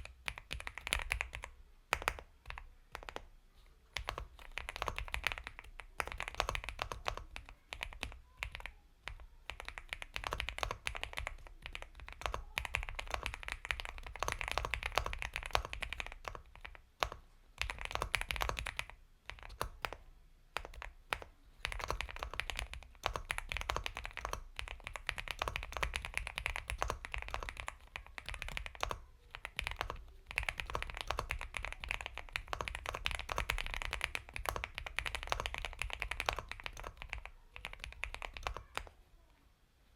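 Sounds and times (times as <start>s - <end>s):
mechanical keyboard typing: 0.0s - 3.3s, 4.0s - 20.0s, 20.6s - 39.0s.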